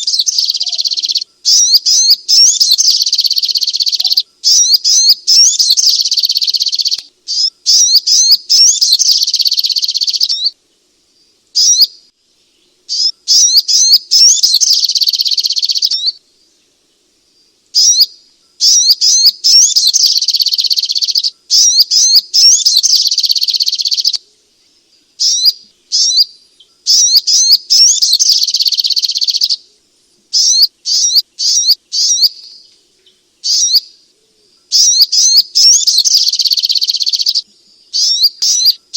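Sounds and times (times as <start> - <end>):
bird chattering song: 0.0 - 10.6, 11.6 - 12.0, 12.6 - 16.2, 17.8 - 29.7, 30.3 - 38.9.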